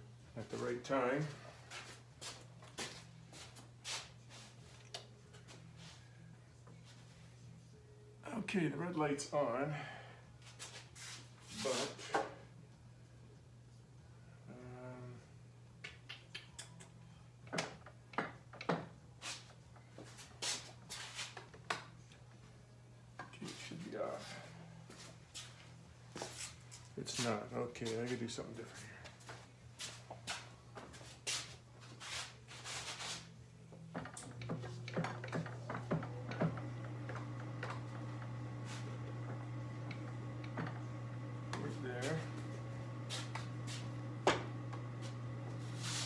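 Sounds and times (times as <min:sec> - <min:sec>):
low electrical hum: 0:00.0 - 0:46.0.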